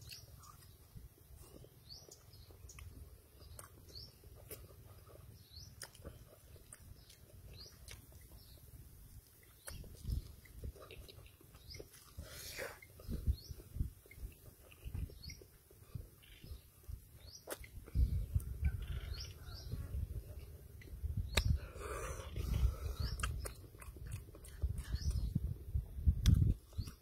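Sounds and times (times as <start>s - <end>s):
chewing with wet clicks: 0.0s - 21.6s, 22.2s - 27.0s.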